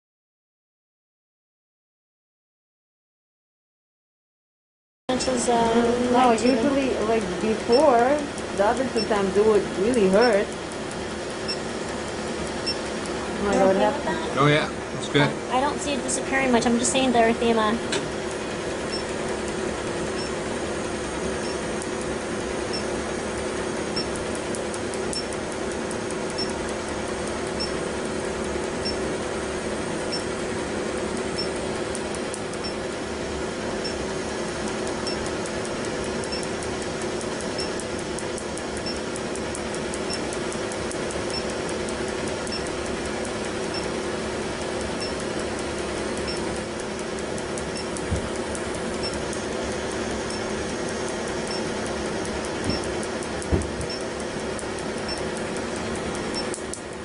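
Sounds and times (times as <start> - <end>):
laser machine humming: 5.1 - 57.0.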